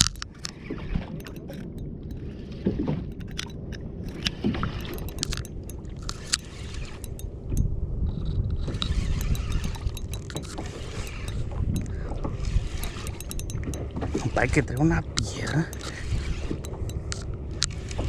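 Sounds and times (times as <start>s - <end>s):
choppy water: 0.0s - 18.0s
fishing tackle clicks and knocks: 0.0s - 18.0s
wind on microphone: 0.0s - 18.0s.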